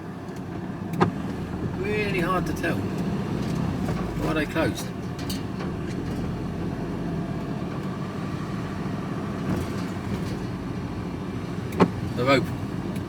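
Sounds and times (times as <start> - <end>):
van engine running at low revs: 0.0 - 13.0.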